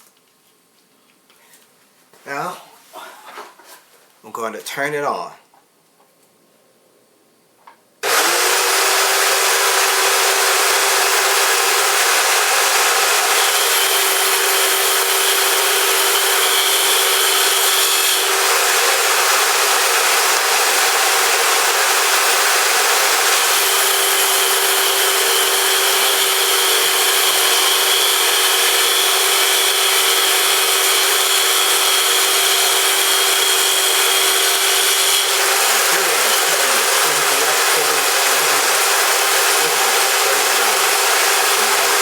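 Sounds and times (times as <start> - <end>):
high saw whine: 8.0 - 42.0
table saw running: 8.0 - 42.0.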